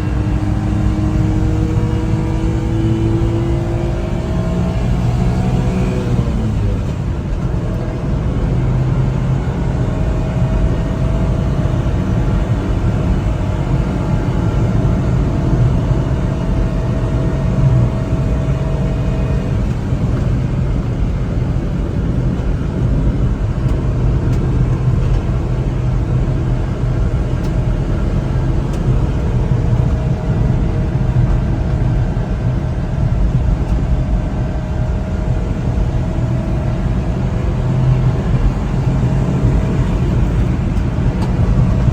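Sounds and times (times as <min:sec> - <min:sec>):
low road rumble: 0:00.0 - 0:41.9
truck engine running: 0:00.0 - 0:41.9.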